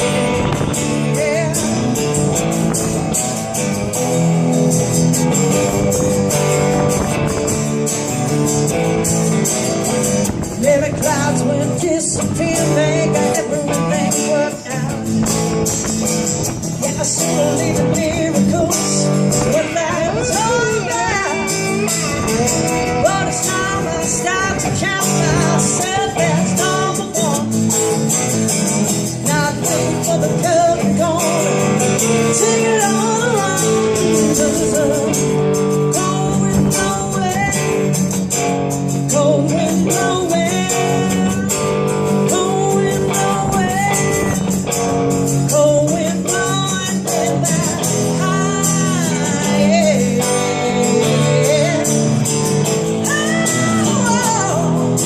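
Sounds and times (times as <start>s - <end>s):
guitar chords: 0.0s - 55.0s
lead guitar bending notes: 0.0s - 55.0s.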